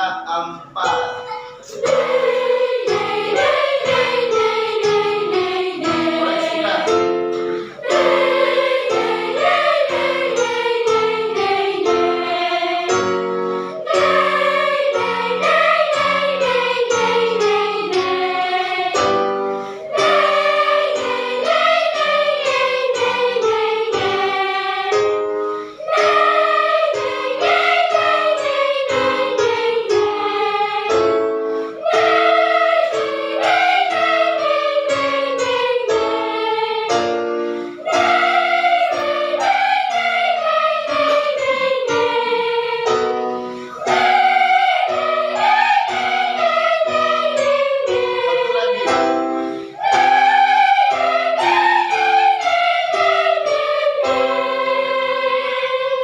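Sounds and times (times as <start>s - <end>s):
accompaniment chords: 0.0s - 56.0s
children's choir singing: 0.0s - 56.0s.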